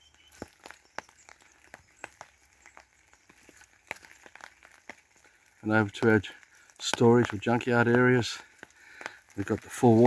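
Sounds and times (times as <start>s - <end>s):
footsteps crunching on ground: 0.0s - 10.0s.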